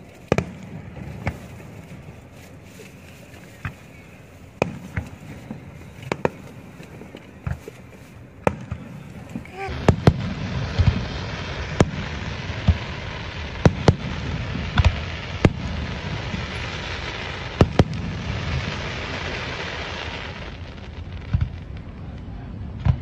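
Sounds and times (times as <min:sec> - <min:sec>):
steady hiss: 0:00.0 - 0:22.8
fireworks bangs: 0:00.0 - 0:23.0.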